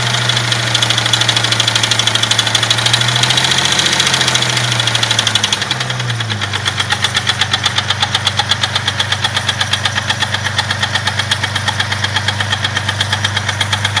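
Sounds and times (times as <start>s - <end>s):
car engine idling with rapid knock: 0.0s - 14.0s.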